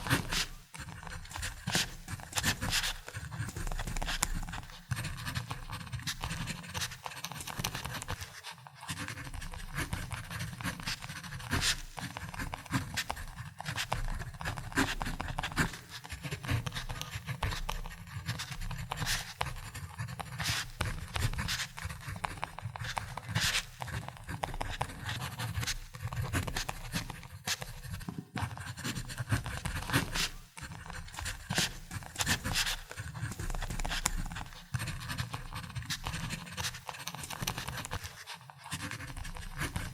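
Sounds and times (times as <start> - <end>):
ballpoint pen writing on paper: 0.0 - 39.9.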